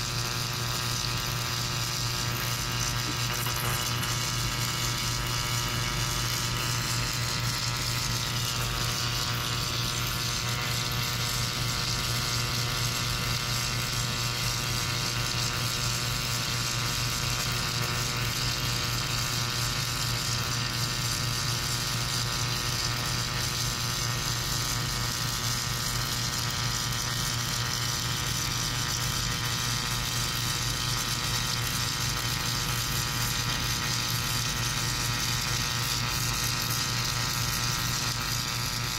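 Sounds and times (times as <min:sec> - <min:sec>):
welder humming and hissing: 0:00.0 - 0:38.9.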